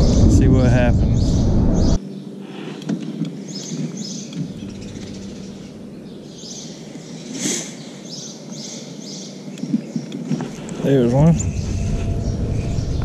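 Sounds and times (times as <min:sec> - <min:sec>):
birds chirping: 0:00.0 - 0:13.0
faint low hum: 0:00.0 - 0:13.0.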